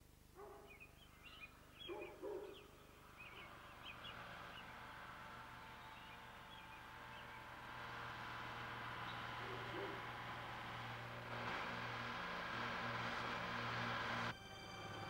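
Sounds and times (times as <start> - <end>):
small birds chirping: 0.0 - 13.9
low hooting calls: 0.4 - 13.6
low engine hum: 0.9 - 15.0.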